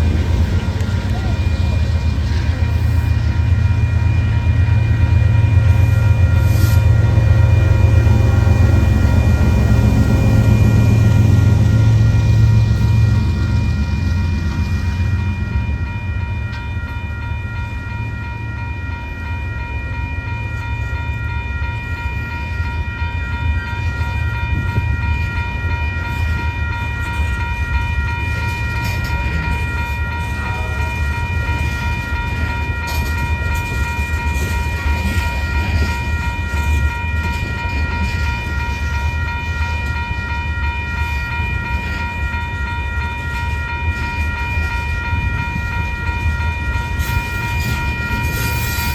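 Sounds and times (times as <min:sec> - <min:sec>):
freight train rumbling: 0:00.0 - 0:48.9
high whine: 0:00.0 - 0:48.9.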